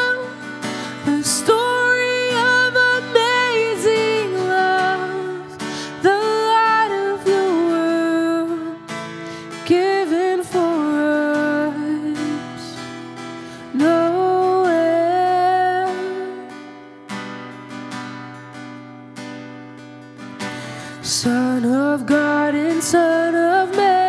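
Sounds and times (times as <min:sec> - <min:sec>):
woman singing: 0:00.0 - 0:17.0, 0:20.7 - 0:24.0
acoustic guitar strumming: 0:00.0 - 0:24.0.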